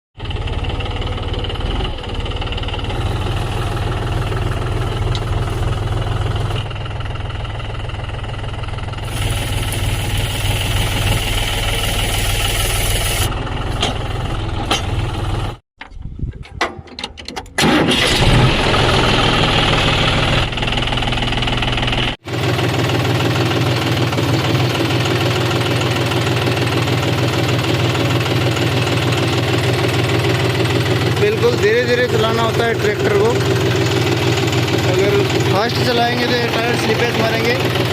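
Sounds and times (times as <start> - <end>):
tractor diesel engine under load: 0.2 - 15.6, 17.5 - 37.9.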